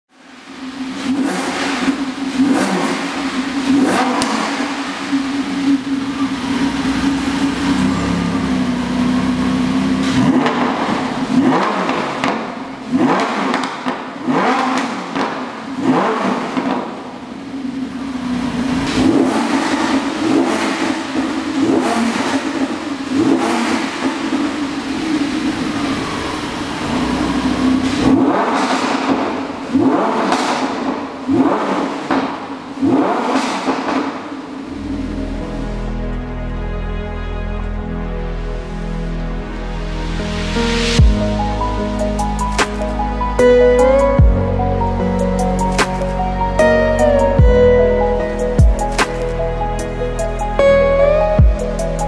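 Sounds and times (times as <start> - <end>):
sports car engine revving: 0.3 - 36.1, 38.3 - 52.0.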